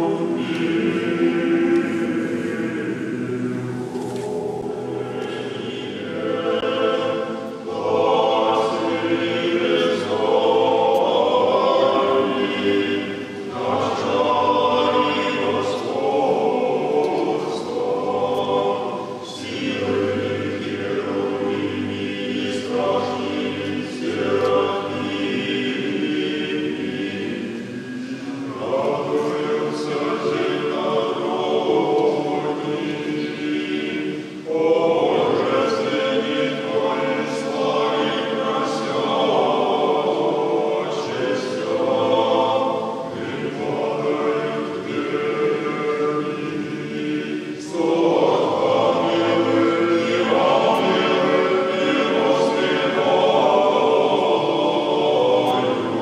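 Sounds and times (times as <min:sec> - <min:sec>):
choir chanting unaccompanied: 0:00.0 - 0:56.0.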